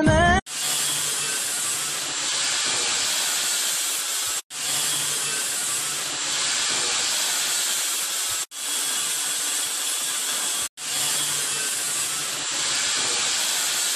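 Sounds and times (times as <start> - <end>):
mixer machine hissing rush: 0.5 - 13.9.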